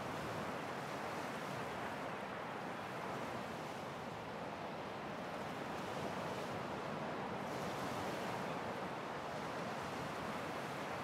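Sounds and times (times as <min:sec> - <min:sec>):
ocean waves breaking on sand: 0:00.0 - 0:11.0.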